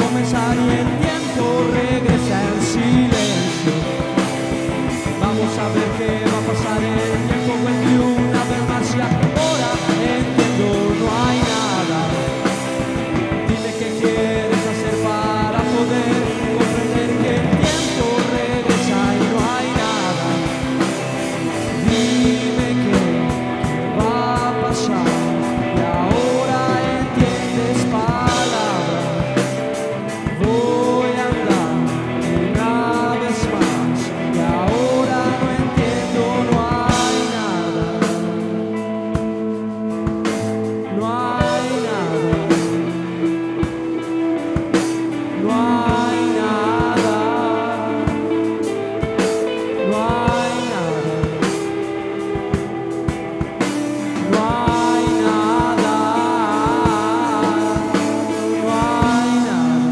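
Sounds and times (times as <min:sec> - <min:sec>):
drum kit: 0:00.0 - 0:59.9
electric guitars: 0:00.0 - 0:59.9
man singing: 0:00.0 - 0:59.9.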